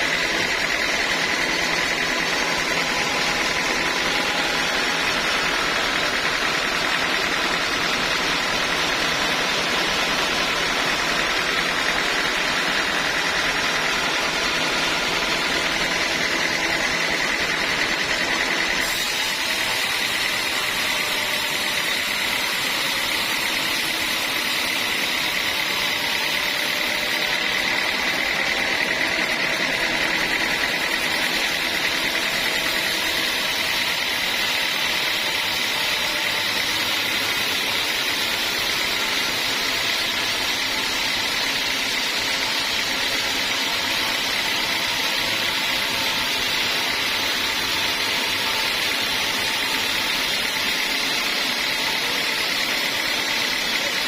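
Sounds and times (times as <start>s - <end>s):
sawmill saw whining: 0.0s - 54.0s.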